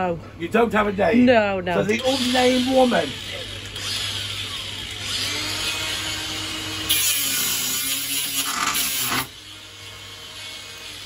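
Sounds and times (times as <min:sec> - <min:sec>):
angle grinder cutting metal: 0:01.8 - 0:11.0.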